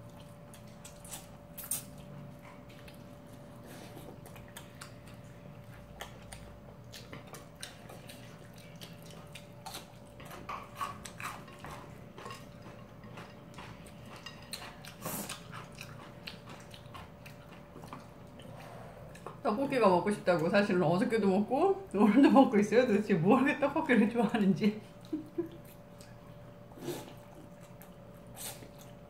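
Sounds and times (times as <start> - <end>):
chewing and mouth noises: 0.0 - 20.5, 24.8 - 29.0
faint steady hum: 0.0 - 29.0.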